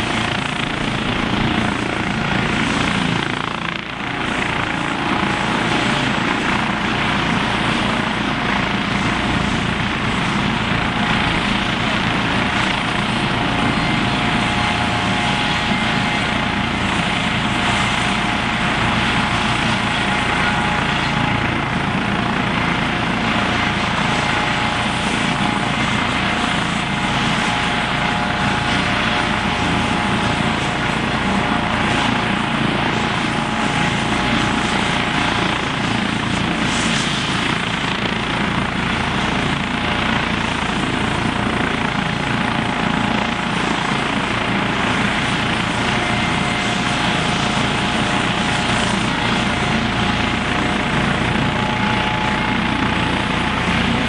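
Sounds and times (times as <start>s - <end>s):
helicopter turbine whine: 0.0s - 54.0s.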